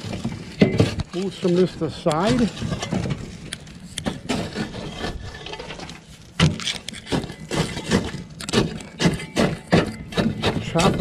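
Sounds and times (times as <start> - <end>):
shovel crunching burning embers: 0.0 - 11.0.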